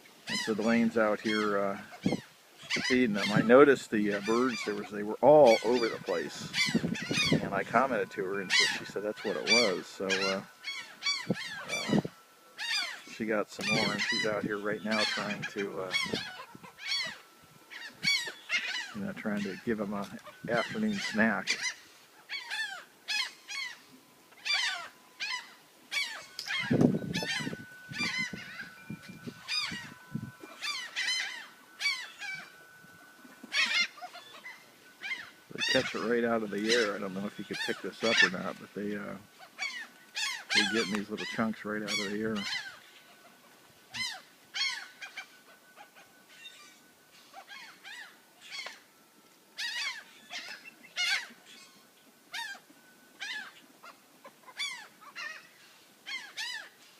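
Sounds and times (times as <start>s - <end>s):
gulls calling: 0.0s - 56.9s.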